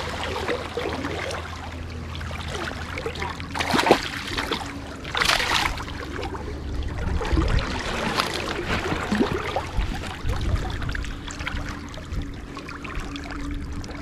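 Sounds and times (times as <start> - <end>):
low rumble: 0.0 - 14.0
water splashing and lapping: 0.0 - 14.0.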